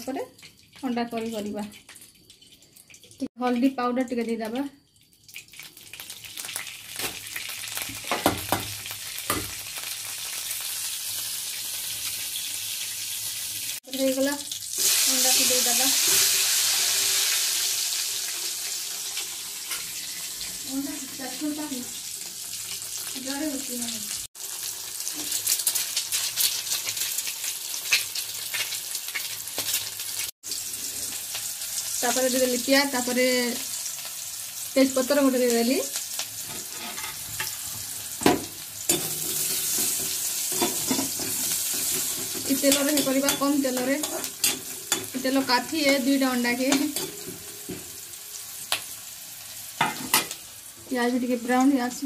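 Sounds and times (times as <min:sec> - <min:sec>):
oil sizzling in a pan: 0:00.0 - 0:52.0.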